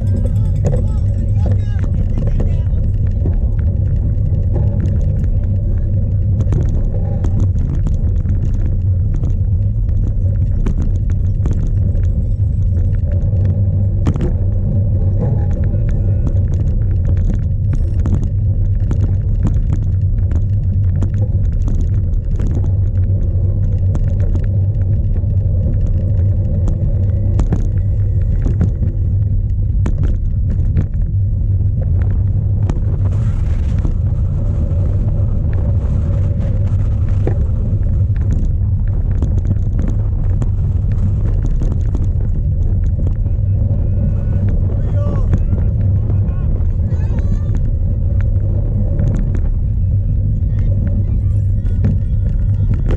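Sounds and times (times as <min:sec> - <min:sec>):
bike knocks and rattles: 0:00.0 - 0:52.9
wind buffeting microphone: 0:00.0 - 0:52.9.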